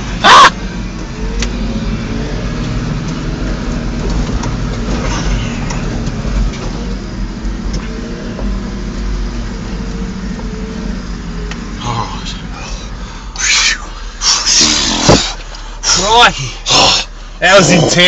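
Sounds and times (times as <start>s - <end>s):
car engine running: 0.0s - 18.0s
tyre and road rumble: 0.0s - 18.0s.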